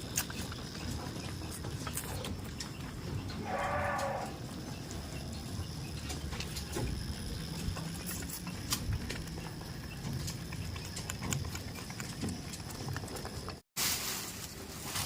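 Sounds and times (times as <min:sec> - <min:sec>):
livestock knocks and clicks: 0:00.0 - 0:13.6.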